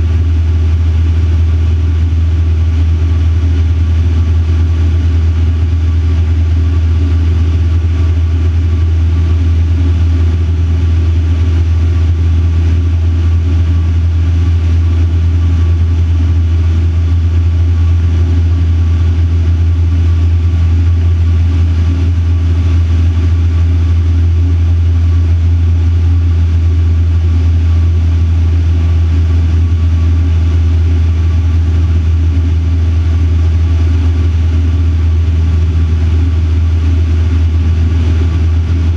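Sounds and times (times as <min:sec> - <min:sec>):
aircraft engine and propeller droning: 0:00.0 - 0:38.9.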